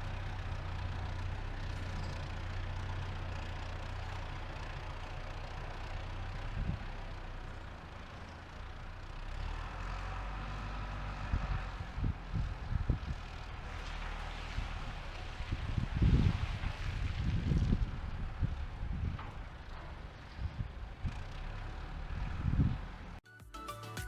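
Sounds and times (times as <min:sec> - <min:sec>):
diesel engine running: 0:00.0 - 0:23.2.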